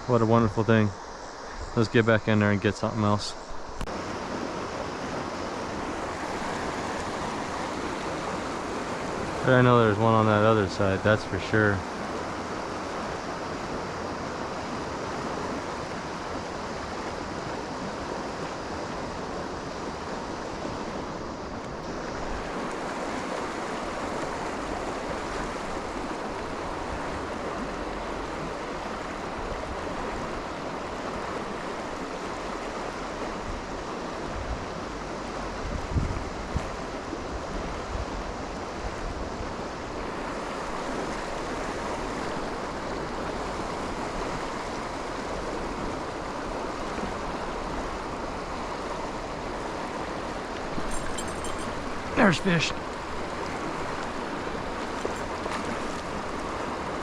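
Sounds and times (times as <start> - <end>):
river current rushing: 0.0 - 57.0.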